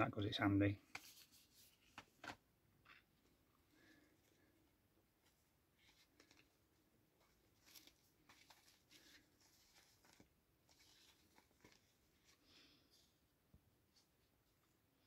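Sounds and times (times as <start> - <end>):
rustling of cd cases: 0.6 - 13.2.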